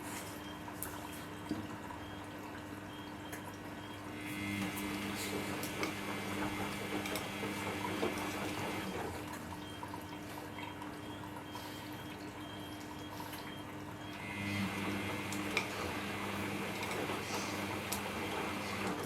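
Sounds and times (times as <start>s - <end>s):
water running into washing machine: 0.0s - 19.0s.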